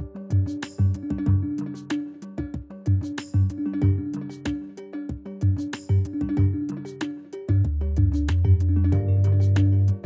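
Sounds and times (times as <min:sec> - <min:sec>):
percussive beat: 0:00.0 - 0:10.0.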